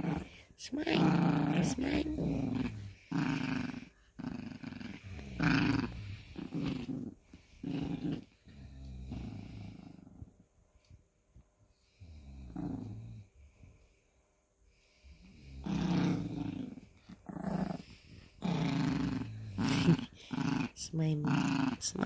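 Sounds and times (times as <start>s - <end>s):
small dog growling: 0.0s - 10.4s, 12.2s - 13.3s, 15.2s - 22.0s.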